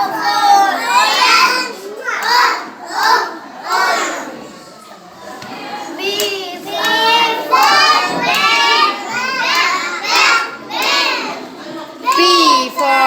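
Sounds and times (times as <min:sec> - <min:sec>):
children chanting together: 0:00.0 - 0:13.0.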